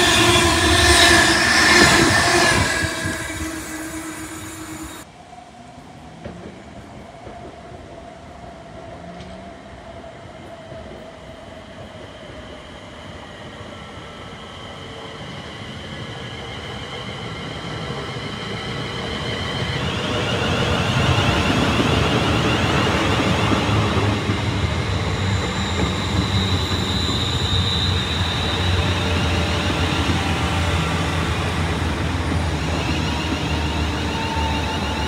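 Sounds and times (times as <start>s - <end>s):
electric train whine: 0.0s - 35.0s.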